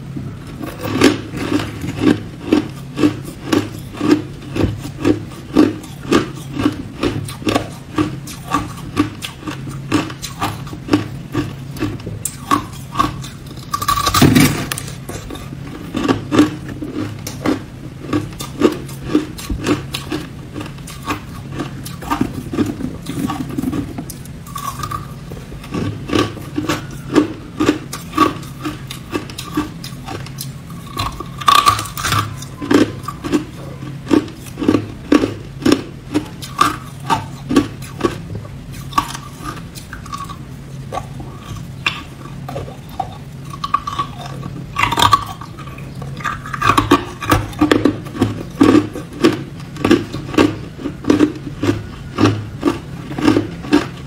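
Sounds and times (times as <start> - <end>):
ice crunching between teeth: 0.6 - 54.0.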